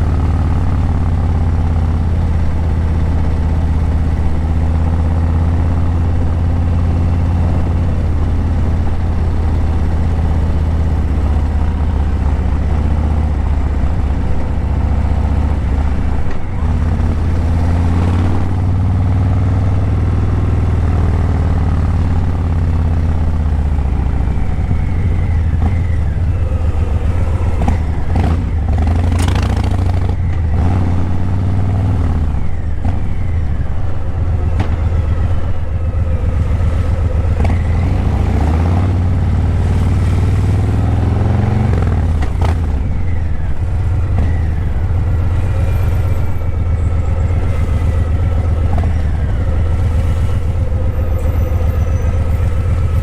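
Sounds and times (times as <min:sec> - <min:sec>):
motorcycle exhaust rumble: 0:00.0 - 0:53.0.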